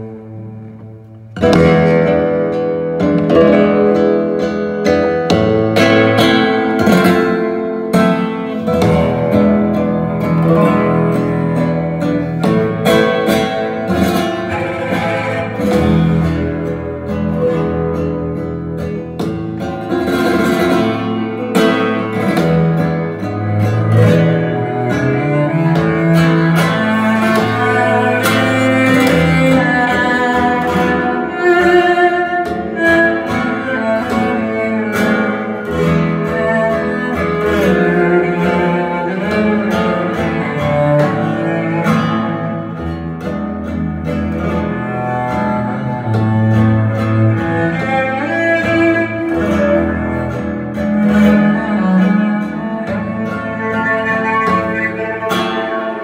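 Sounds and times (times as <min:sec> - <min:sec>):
flamenco guitar music: 0:00.0 - 0:56.0.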